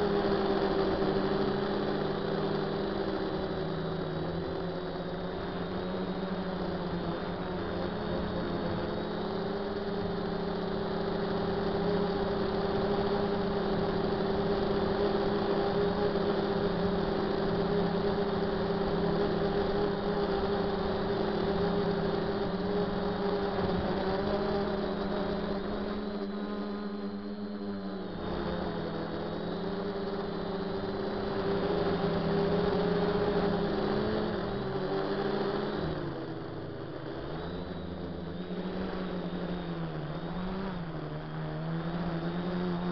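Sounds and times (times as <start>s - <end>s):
drone propellers humming: 0.0s - 42.9s.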